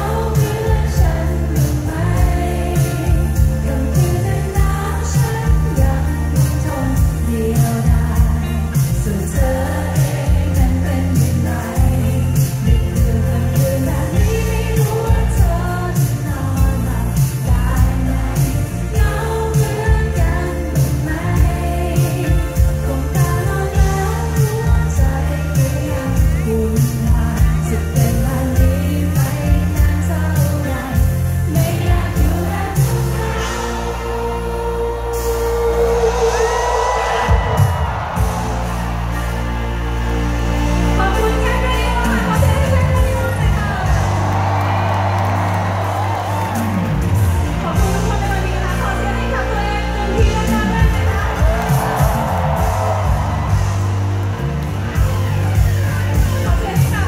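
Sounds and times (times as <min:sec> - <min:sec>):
drums steady beat: 0:00.0 - 0:34.0, 0:35.1 - 0:49.2, 0:50.1 - 0:57.0
bass: 0:00.0 - 0:57.0
keyboard: 0:00.0 - 0:57.0
live pop band playing: 0:00.0 - 0:57.0
woman singing lead: 0:00.0 - 0:57.0.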